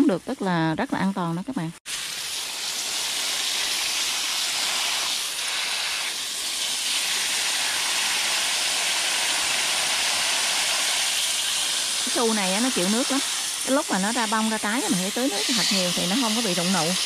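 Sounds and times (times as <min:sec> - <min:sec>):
hose spray hissing: 0:01.9 - 0:17.0.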